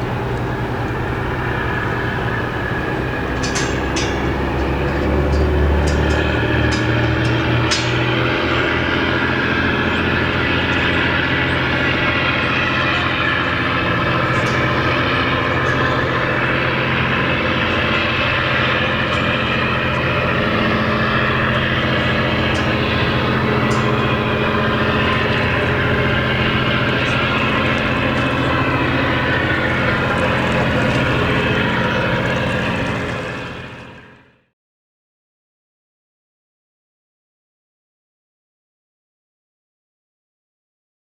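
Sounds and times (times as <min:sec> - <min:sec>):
tugboat engine droning: 0:00.0 - 0:34.5.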